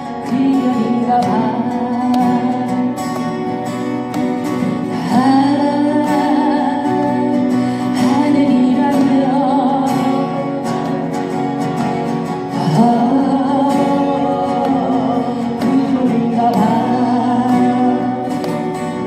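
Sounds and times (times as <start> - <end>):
person singing with vibrato: 0.0 - 11.0, 12.4 - 19.0
guitar and chords: 0.0 - 19.0.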